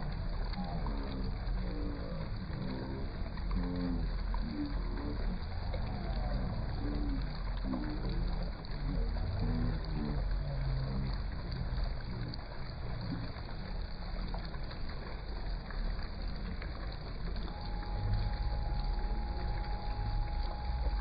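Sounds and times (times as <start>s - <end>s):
rushing water with low rumble: 0.0s - 21.0s
thin steady tone: 0.0s - 21.0s
faint voices: 0.4s - 14.3s, 17.4s - 21.0s.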